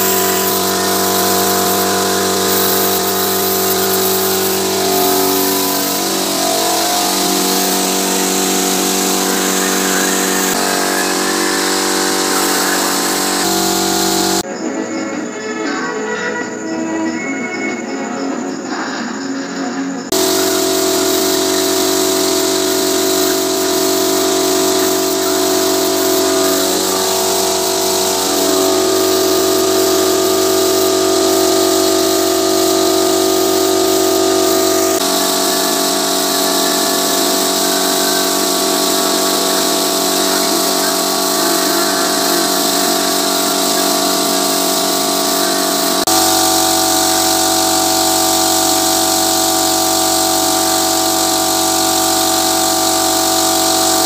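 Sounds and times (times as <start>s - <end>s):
air compressor humming: 0.0s - 14.5s, 20.1s - 54.0s
paint spray gun hissing: 0.0s - 14.5s, 20.1s - 54.0s.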